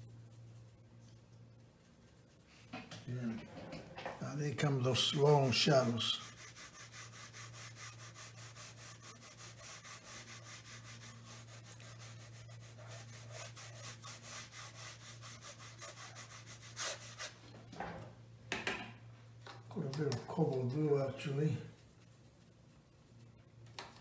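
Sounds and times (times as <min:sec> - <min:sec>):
brush strokes on textured paper: 0:00.0 - 0:03.2, 0:04.2 - 0:17.4, 0:20.4 - 0:23.5.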